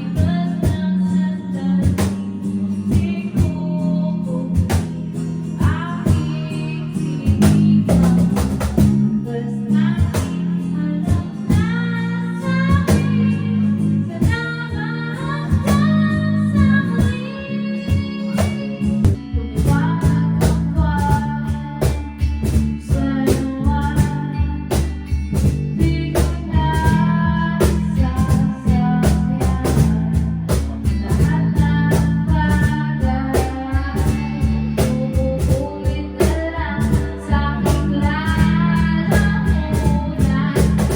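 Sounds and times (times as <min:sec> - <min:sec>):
bass guitar: 0:00.0 - 0:40.9
electric guitar: 0:00.0 - 0:40.9
drum kit beat: 0:00.1 - 0:03.7, 0:04.4 - 0:09.2, 0:10.0 - 0:40.9
person singing: 0:05.5 - 0:40.9.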